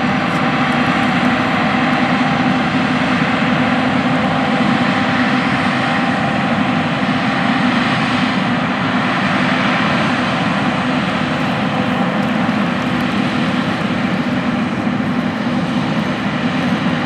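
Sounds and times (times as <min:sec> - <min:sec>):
diesel engine drone: 0:00.0 - 0:17.0
steady whine: 0:00.0 - 0:17.0.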